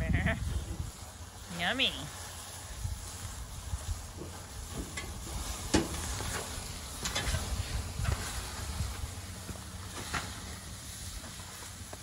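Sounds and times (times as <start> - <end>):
meat sizzling: 0.0 - 12.0
wood fire crackling and popping: 0.0 - 12.0.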